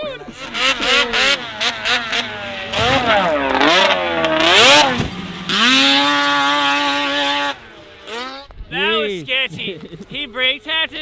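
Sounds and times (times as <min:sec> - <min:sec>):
snowmobile engine revving: 0:00.0 - 0:10.9.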